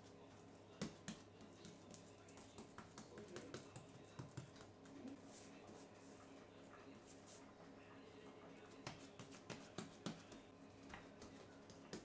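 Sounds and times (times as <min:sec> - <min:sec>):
hands kneading dough on countertop: 0:00.4 - 0:07.7, 0:08.7 - 0:12.0.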